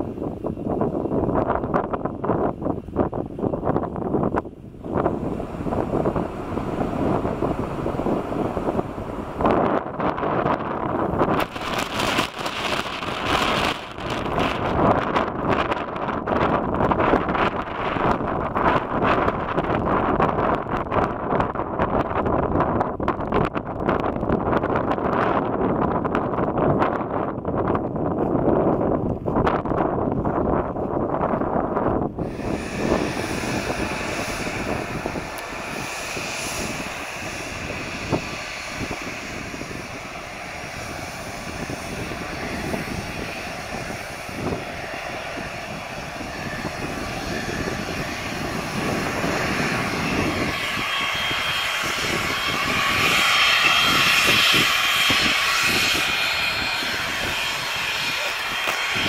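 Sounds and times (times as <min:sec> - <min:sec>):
jet engines hissing and whining: 0:00.0 - 0:21.4, 0:32.2 - 0:59.0.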